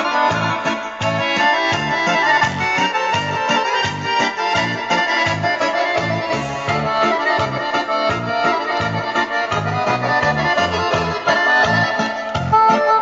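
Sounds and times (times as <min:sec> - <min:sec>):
music with bass line on radio: 0:00.0 - 0:13.0.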